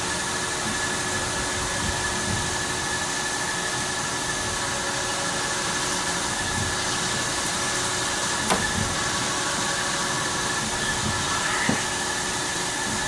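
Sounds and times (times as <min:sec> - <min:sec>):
machining center whirring: 0:00.0 - 0:13.0.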